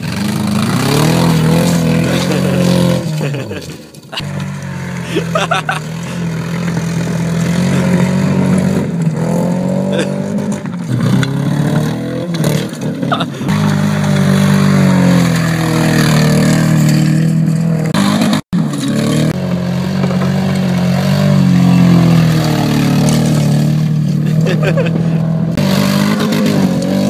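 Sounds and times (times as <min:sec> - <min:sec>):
car engine revving hard: 0:00.0 - 0:03.5, 0:04.2 - 0:27.0.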